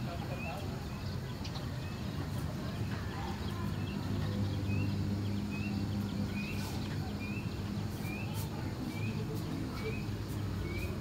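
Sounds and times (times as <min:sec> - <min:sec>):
bird rising chirp: 0:00.1 - 0:11.0.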